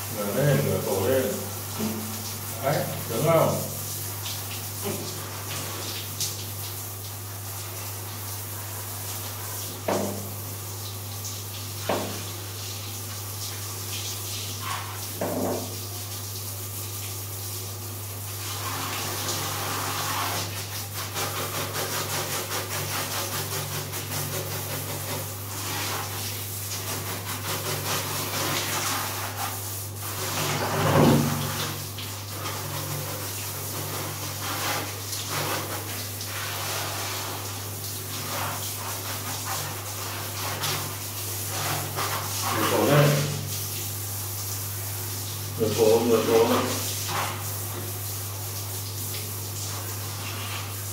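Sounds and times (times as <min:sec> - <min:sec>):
shower sprayer hissing: 0:00.0 - 0:50.9.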